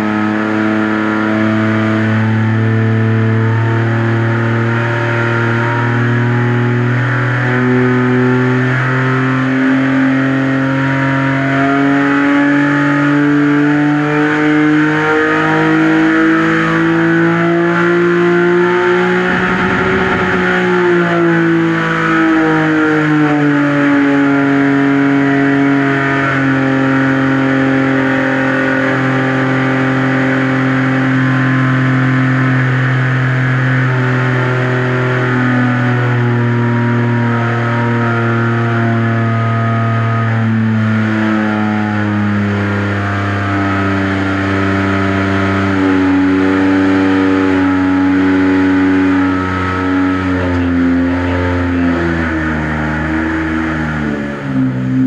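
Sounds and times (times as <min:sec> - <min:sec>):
engine running hard on dyno: 0:00.0 - 0:55.0.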